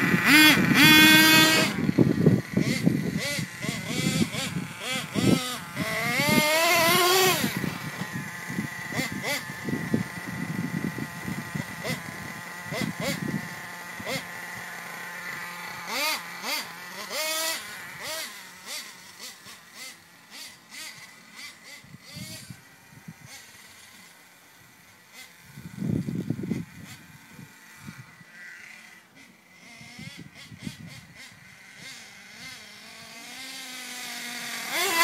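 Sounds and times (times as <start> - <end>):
rc truck nitro engine revving: 0.0 - 35.0.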